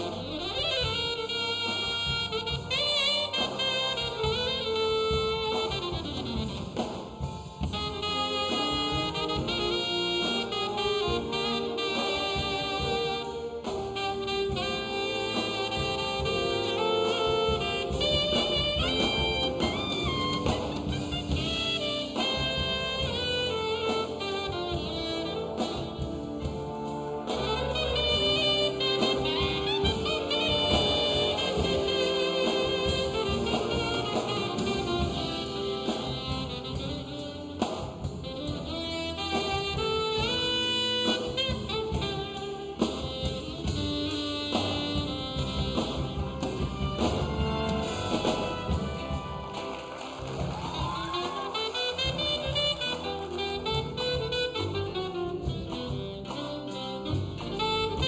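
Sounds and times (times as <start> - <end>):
big band jazz: 0.0 - 58.0.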